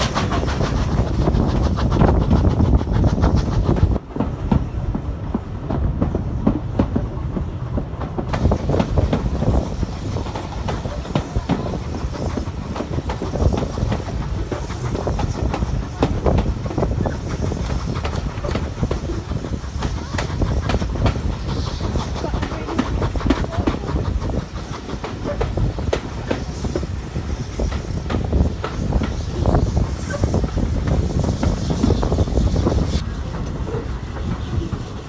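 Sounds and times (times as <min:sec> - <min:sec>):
train carriages rumbling: 0:00.0 - 0:35.0.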